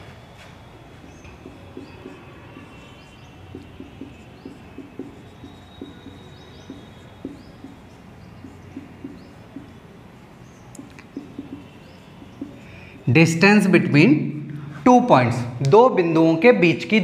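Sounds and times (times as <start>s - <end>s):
marker writing on whiteboard: 0.4s - 14.7s.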